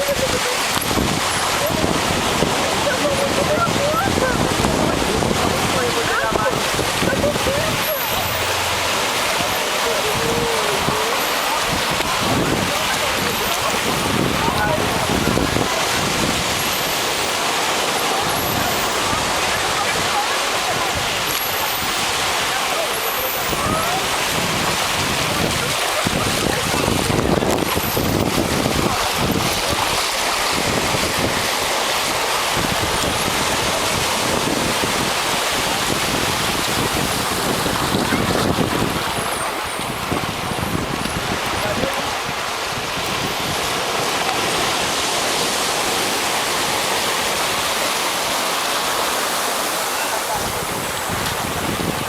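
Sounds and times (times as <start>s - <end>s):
waves washing onto beach: 0.0s - 52.0s
wind buffeting microphone: 0.0s - 52.0s.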